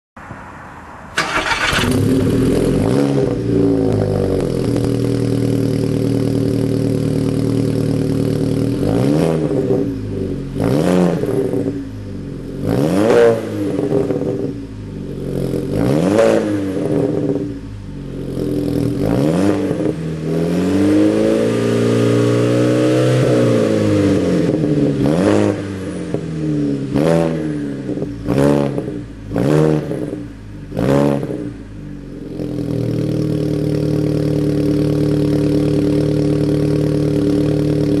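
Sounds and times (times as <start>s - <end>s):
car engine revving: 1.0s - 38.0s.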